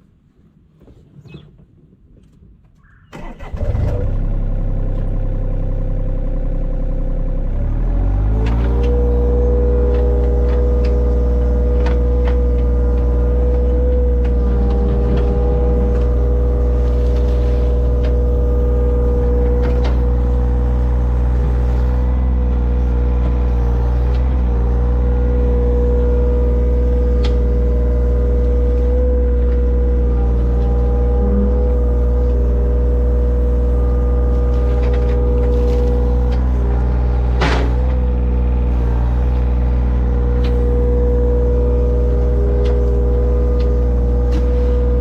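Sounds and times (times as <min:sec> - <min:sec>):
digging machine engine hum: 0:03.2 - 0:45.0.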